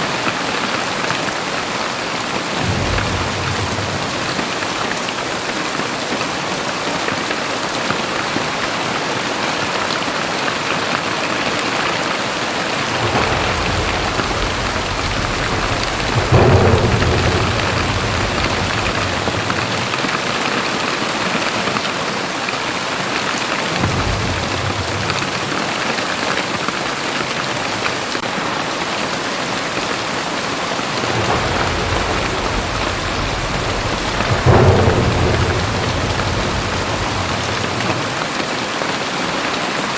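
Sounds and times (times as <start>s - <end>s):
heavy rain pouring: 0.0s - 39.9s
thunder rumbling: 0.2s - 6.5s, 10.3s - 21.8s, 23.3s - 38.8s.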